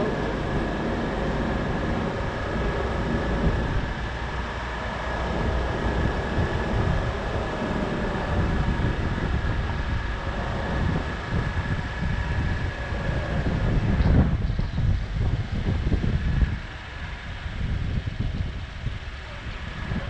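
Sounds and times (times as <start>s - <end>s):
faint high whine: 0.0s - 20.0s
steady low rumble: 0.0s - 20.0s
wind buffeting microphone: 0.0s - 20.0s.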